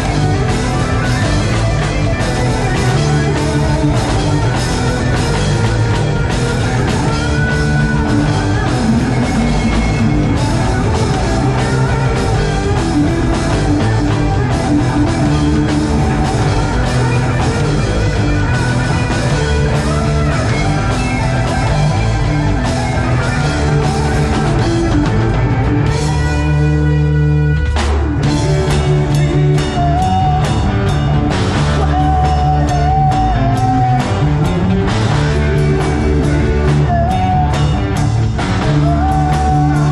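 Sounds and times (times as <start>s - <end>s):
bass guitar: 0.0s - 39.9s
distorted electric guitars: 0.0s - 39.9s
drums: 0.0s - 39.9s.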